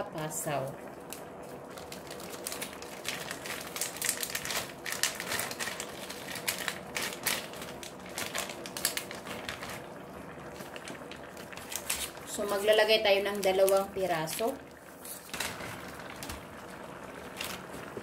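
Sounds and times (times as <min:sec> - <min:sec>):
plastic packet crinkling: 0:01.1 - 0:18.0.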